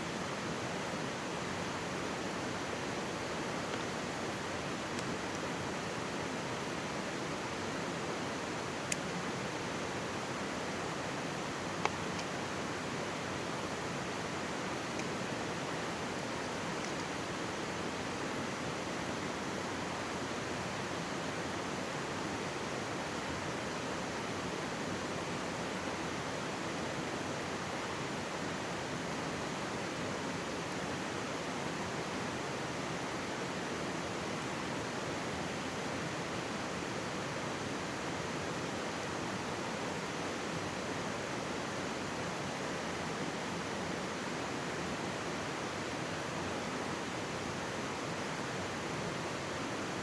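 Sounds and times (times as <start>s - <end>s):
stream rushing: 0.0s - 50.0s.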